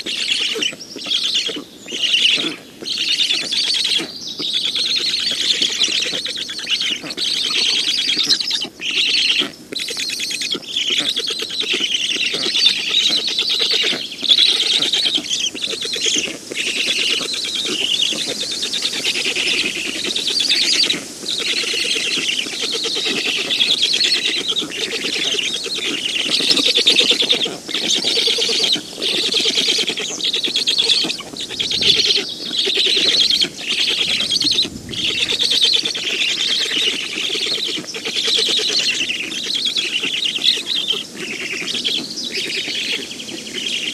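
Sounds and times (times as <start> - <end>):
stork nestlings chattering: 0.0 - 43.9.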